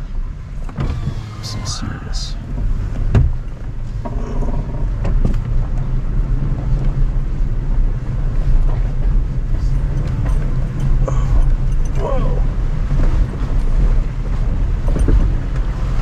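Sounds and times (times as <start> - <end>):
engine and tyres rumbling on rock: 0.0 - 16.0.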